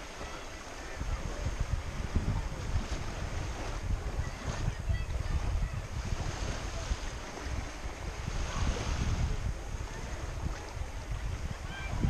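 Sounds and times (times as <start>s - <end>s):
sea waves washing: 0.0s - 12.0s
wind on microphone: 0.0s - 12.0s.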